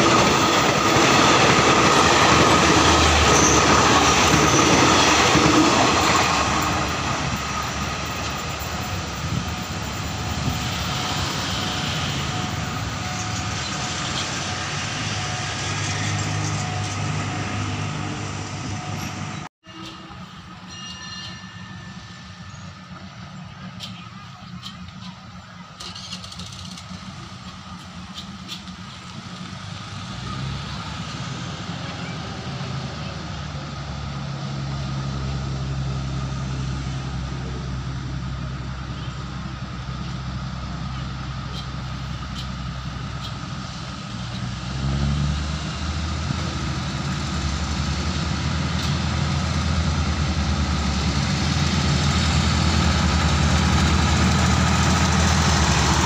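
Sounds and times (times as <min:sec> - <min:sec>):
diesel railcar engines: 0:00.0 - 0:56.0.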